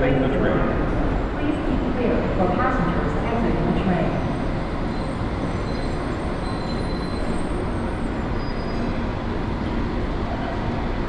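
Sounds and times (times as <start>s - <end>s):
train pulling into station: 0.0s - 11.0s.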